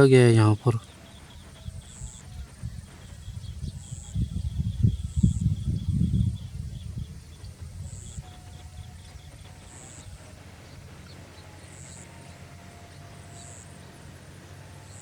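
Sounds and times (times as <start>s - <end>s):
faint whistled tones: 0.0s - 15.0s
low rumble: 0.8s - 15.0s.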